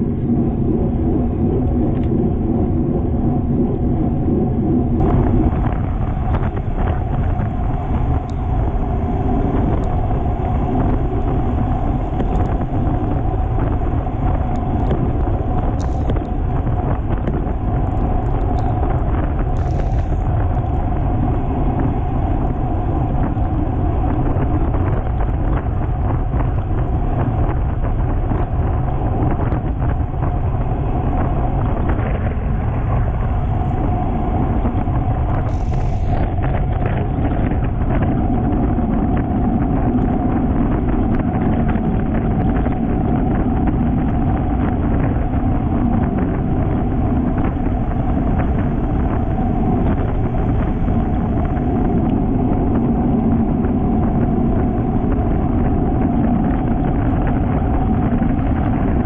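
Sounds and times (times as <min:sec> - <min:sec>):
wind rushing over microphone: 0:00.0 - 0:59.0
tyre and road noise: 0:04.3 - 0:59.0.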